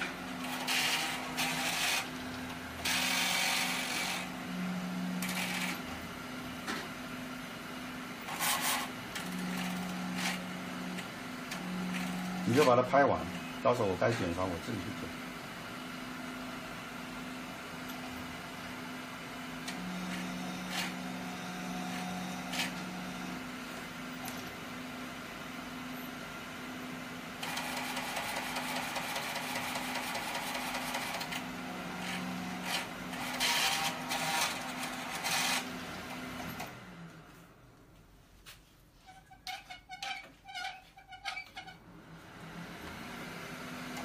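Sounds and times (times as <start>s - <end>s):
inkjet printer running: 0.0s - 37.1s.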